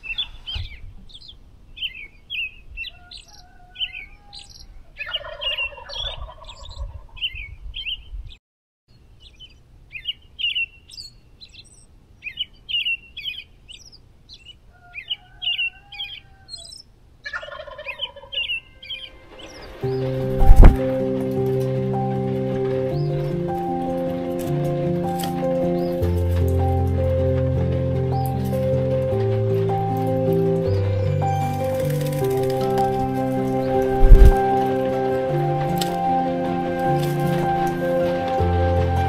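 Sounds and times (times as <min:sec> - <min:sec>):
songbirds chirping: 0:00.0 - 0:39.0
farm fowl calling: 0:00.1 - 0:07.4, 0:12.3 - 0:39.0.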